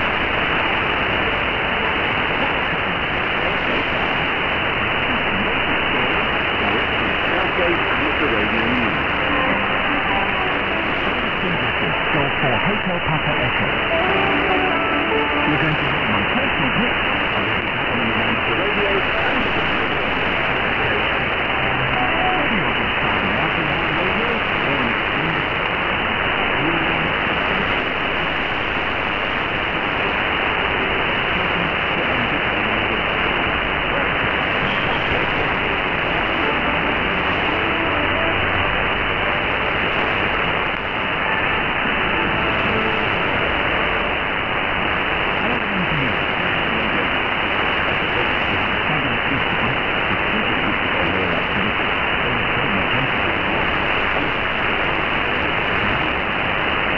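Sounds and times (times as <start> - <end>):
faint voice on radio: 0.0 - 56.9
radio static and hiss: 0.0 - 56.9.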